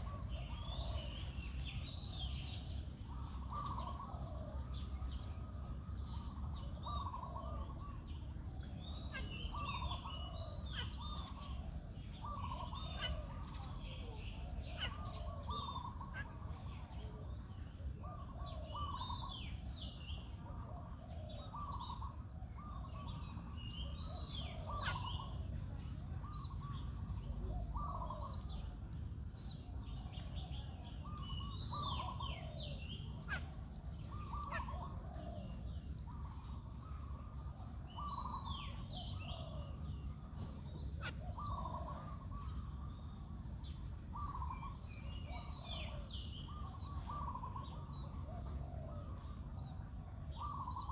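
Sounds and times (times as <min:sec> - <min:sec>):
birds chirping and whistling: 0:00.0 - 0:16.3, 0:18.1 - 0:20.3, 0:21.1 - 0:25.6, 0:29.4 - 0:50.9
low outdoor rumble: 0:00.0 - 0:50.9.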